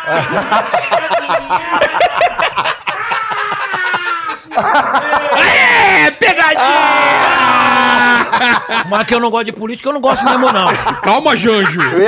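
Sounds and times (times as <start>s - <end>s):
men laughing: 0.0s - 9.3s, 10.0s - 12.0s.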